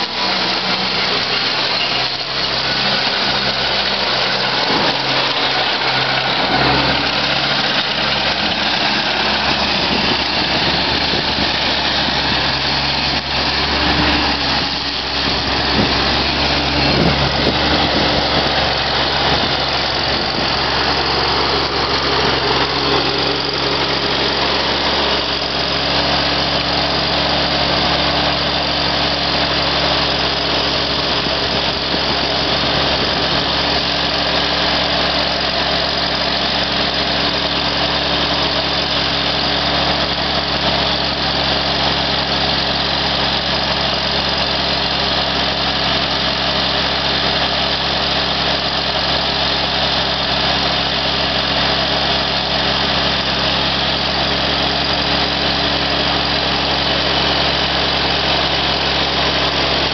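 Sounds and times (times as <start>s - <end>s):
ride-on mower diesel engine running: 0.0s - 59.9s.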